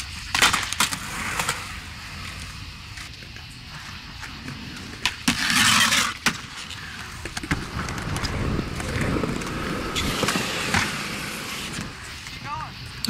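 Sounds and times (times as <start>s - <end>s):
skateboard clacks: 0.0s - 12.5s
skateboard scraping: 0.0s - 12.6s
skateboard wheels rolling on concrete: 0.0s - 13.0s.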